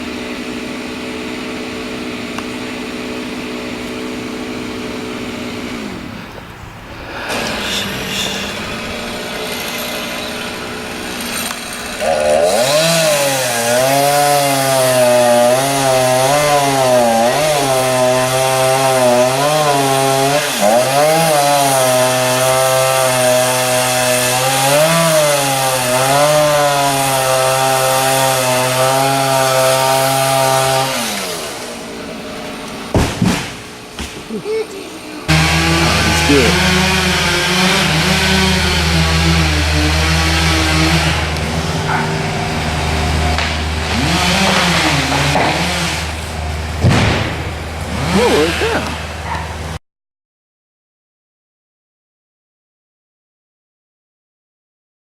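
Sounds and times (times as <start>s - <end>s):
chainsaw cutting wood: 0.0s - 49.8s.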